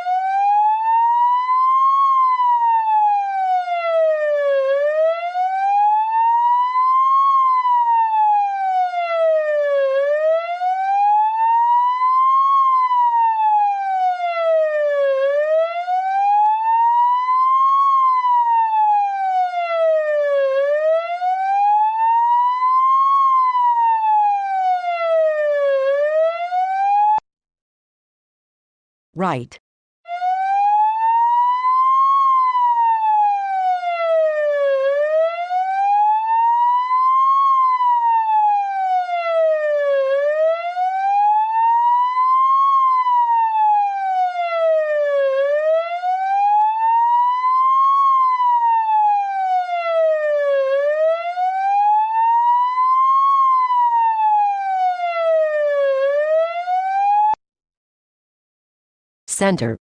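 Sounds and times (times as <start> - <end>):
siren-like electronic test tone: 0.0 - 27.2, 30.1 - 57.4.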